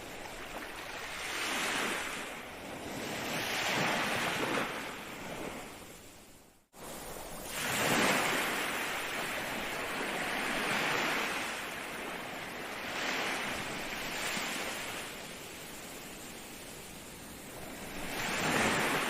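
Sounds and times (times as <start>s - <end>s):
ocean waves breaking: 0.0s - 6.1s, 6.8s - 19.0s.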